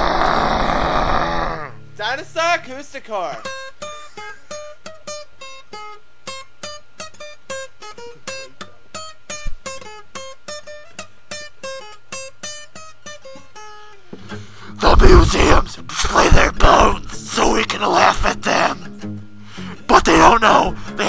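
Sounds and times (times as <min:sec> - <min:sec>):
acoustic guitar picked notes: 0:00.0 - 0:21.0.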